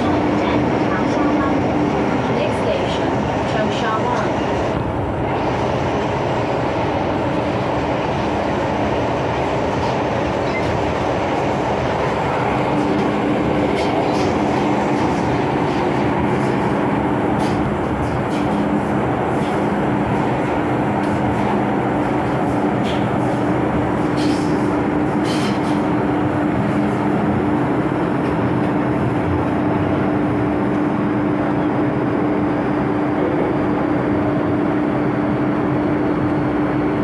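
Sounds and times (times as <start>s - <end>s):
steady hum: 0.0s - 37.0s
train wheels rumbling on track: 0.0s - 37.0s.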